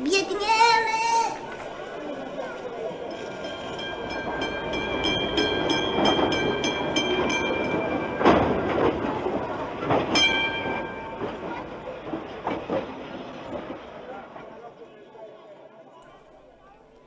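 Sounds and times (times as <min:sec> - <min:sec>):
tram clattering on rails: 0:00.0 - 0:16.6
tram bell ringing: 0:00.4 - 0:14.4.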